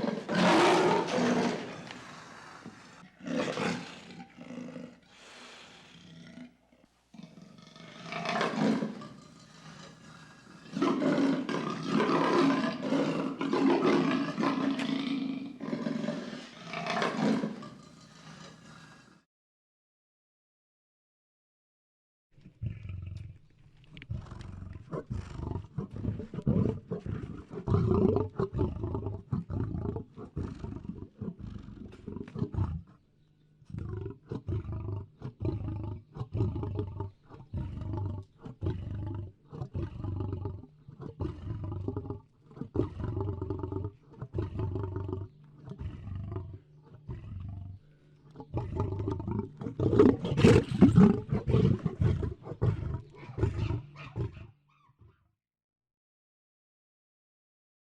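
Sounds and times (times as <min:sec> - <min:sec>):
lion roaring: 0:00.0 - 0:05.3, 0:07.2 - 0:19.1, 0:24.0 - 0:33.0, 0:33.7 - 0:54.6.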